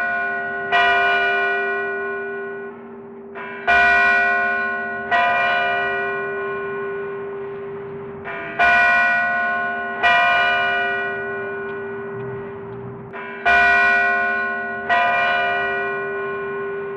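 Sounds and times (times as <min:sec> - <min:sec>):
large bell ringing: 0:00.0 - 0:16.9.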